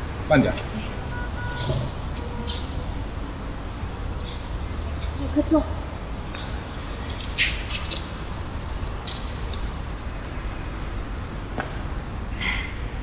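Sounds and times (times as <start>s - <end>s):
low city traffic rumble: 0.0s - 13.0s.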